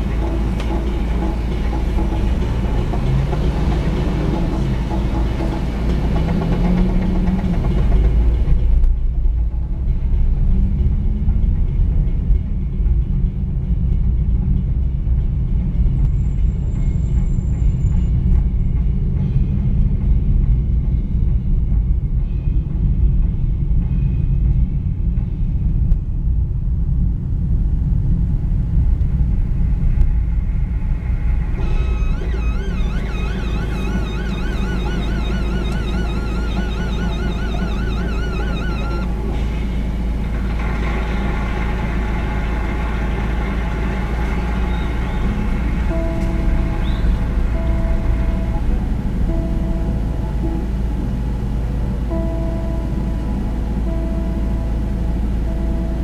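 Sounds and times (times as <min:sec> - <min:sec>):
faint music with wavering tones: 0:00.0 - 0:56.0
road and engine rumble in car: 0:00.0 - 0:56.0.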